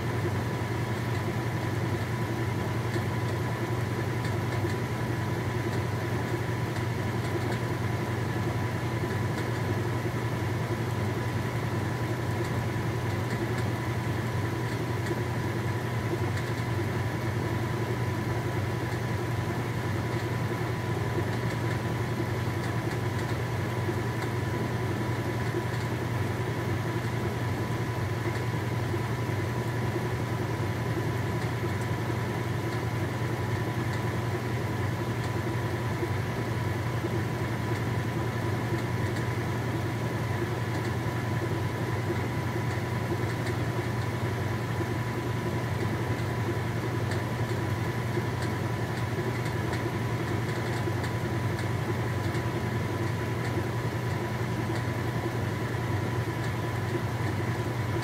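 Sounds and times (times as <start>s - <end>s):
washing machine spin cycle: 0.0s - 58.0s.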